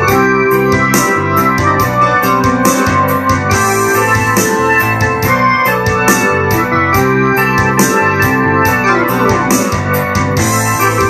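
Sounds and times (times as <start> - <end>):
electric piano and organ synthesizer: 0.0 - 11.0
sharp percussive beat: 0.8 - 11.0.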